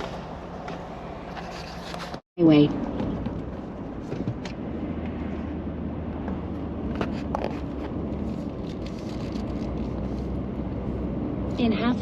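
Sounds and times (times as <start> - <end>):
truck cabin road and engine noise: 0.0 - 12.0.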